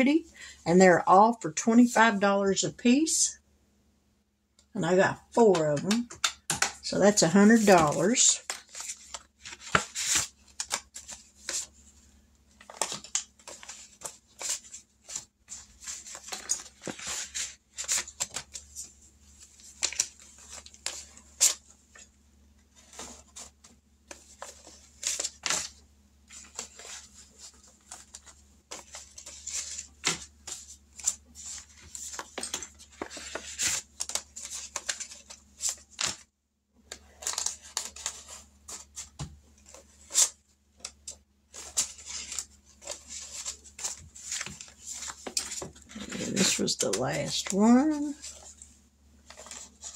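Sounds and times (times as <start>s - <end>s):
paper envelopes and cash rustling: 5.4s - 49.9s.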